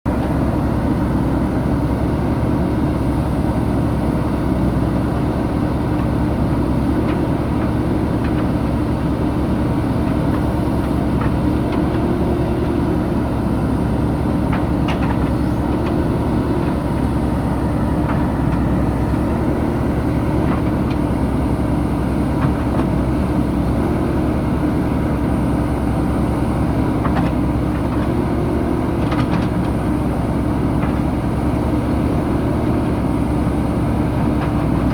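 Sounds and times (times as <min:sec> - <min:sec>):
backhoe diesel engine running: 0:00.1 - 0:34.9.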